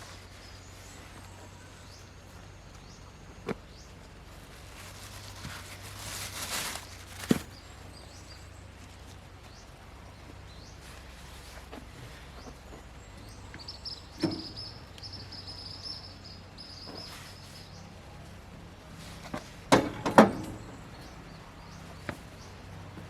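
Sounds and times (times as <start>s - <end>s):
faint outdoor background: 0.0s - 23.0s.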